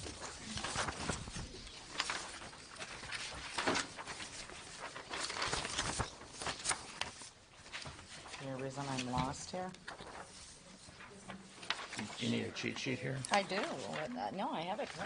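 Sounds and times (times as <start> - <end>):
paper rustling: 0.0 - 15.0.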